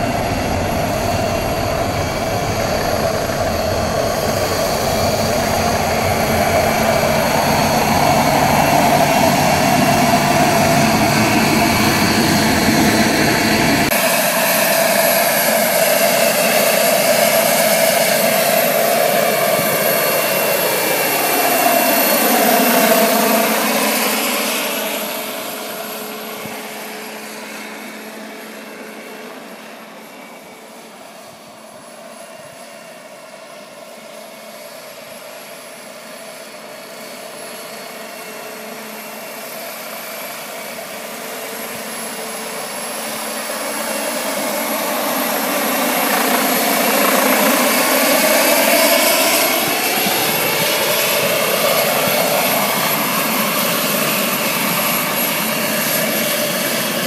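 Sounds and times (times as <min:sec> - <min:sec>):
model helicopter turbine whine: 0:00.0 - 0:57.0.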